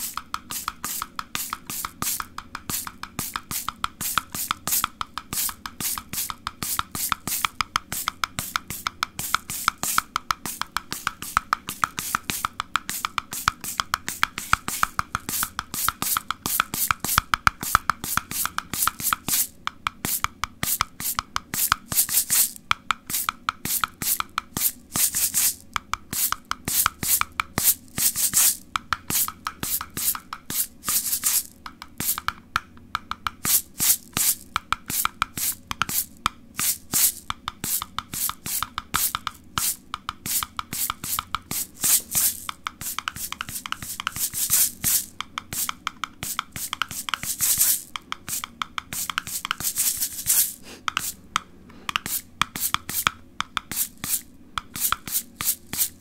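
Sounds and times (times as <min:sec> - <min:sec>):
rhythmic sharp tapping: 0:00.0 - 0:56.0.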